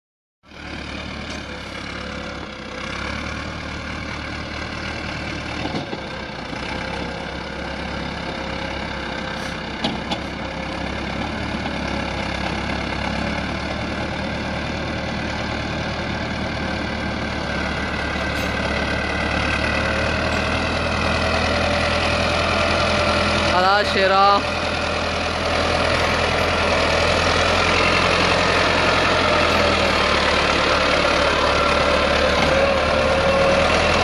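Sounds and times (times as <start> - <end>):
tractor diesel engine running: 0.5 - 34.0.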